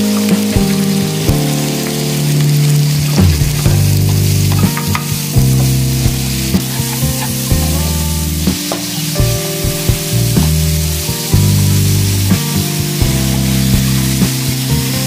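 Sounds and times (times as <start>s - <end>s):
background music: 0.0s - 15.0s
vegetables sizzling in oil: 0.0s - 15.0s.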